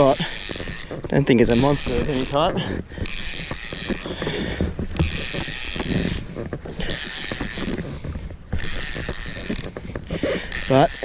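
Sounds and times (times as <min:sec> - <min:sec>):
fishing reel whirring and clicking: 0:00.0 - 0:04.2, 0:04.8 - 0:07.9, 0:08.6 - 0:11.0.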